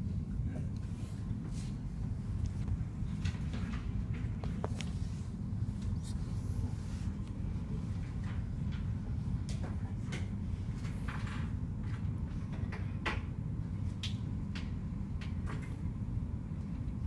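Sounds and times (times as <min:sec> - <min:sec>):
low indoor rumble: 0:00.0 - 0:17.0.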